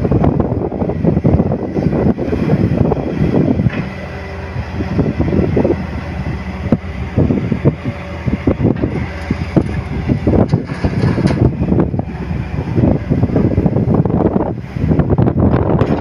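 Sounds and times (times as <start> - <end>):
excavator diesel engine under load: 0.0 - 16.0
wind buffeting microphone: 0.0 - 16.0.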